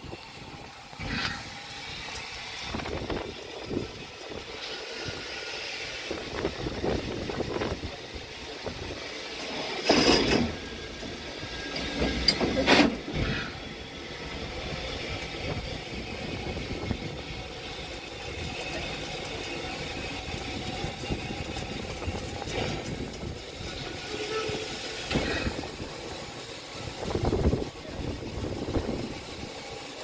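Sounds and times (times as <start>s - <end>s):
bursts of steam noise: 0.0s - 30.0s
steam locomotive hissing: 0.0s - 30.0s.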